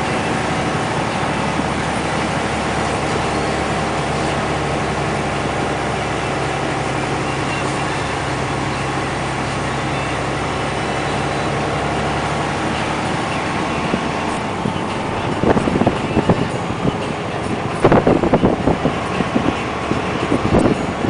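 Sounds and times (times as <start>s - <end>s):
dump truck diesel engine: 0.0s - 21.0s.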